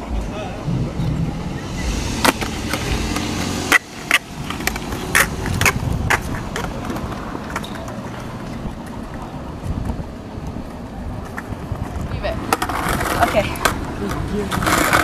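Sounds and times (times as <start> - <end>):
skateboard rolling over tiles: 0.1 - 15.0.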